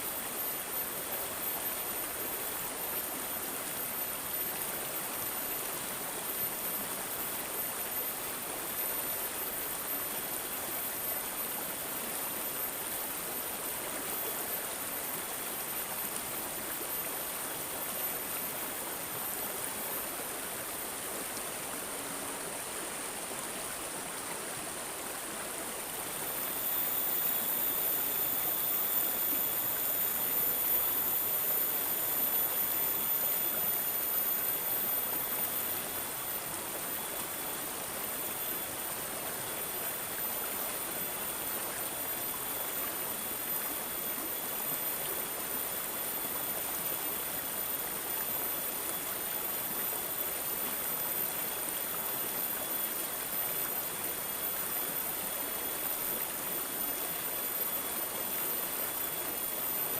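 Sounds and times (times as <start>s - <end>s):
stream water gurgling: 0.0s - 59.9s.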